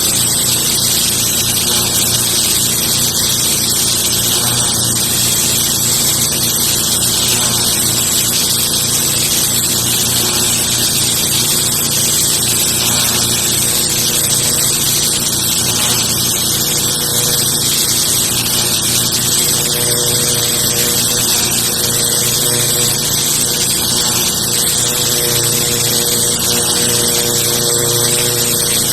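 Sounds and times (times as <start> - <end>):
high-pressure water jet hissing: 0.0 - 28.9
motor and pump humming: 0.0 - 28.9.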